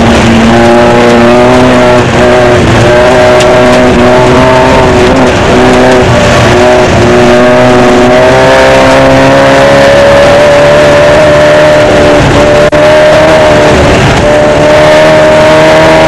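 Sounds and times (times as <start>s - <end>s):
race car engine under load: 0.0s - 16.0s
wind and road noise: 0.0s - 16.0s.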